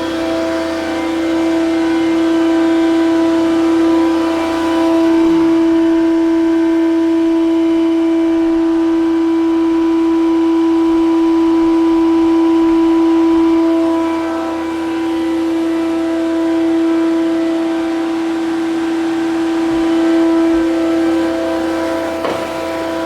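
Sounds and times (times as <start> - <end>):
planer running with steady whine: 0.0 - 23.0.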